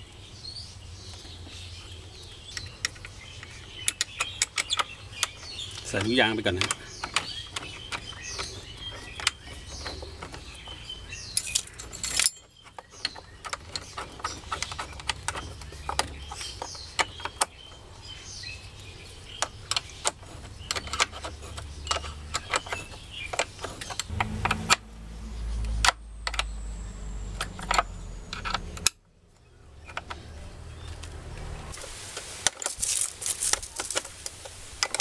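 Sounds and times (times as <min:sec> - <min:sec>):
birds chirping: 0:00.0 - 0:31.9, 0:32.6 - 0:35.0.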